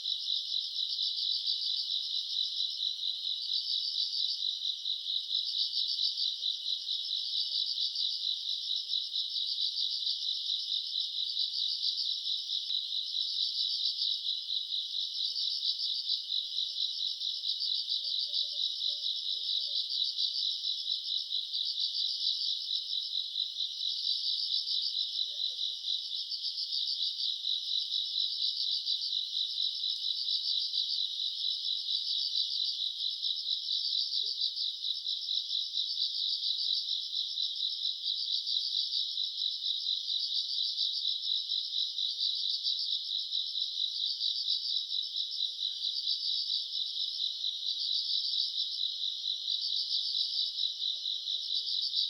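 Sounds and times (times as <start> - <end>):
crickets and night insects trilling: 0.0 - 52.0.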